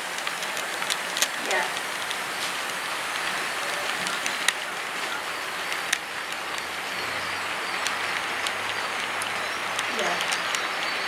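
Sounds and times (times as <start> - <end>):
model train wheels on track: 0.0 - 11.0
sharp clicks: 0.0 - 11.0.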